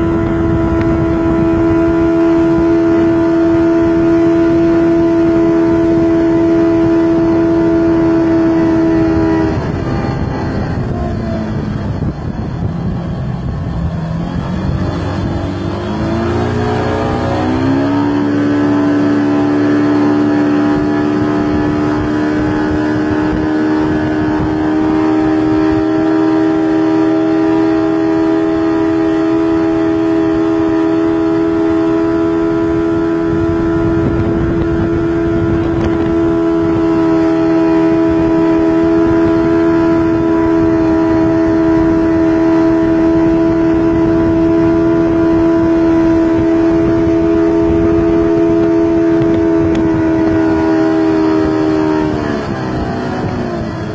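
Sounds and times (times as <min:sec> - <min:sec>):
wind rushing: 0:00.0 - 0:27.0, 0:31.3 - 0:53.9
outboard motor running: 0:00.0 - 0:53.9
wake water rushing: 0:00.0 - 0:53.9.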